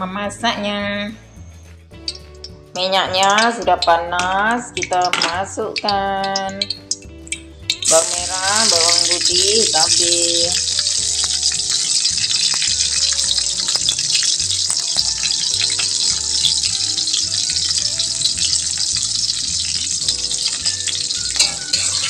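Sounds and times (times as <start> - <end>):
food sizzling in hot oil: 2.0 - 22.0.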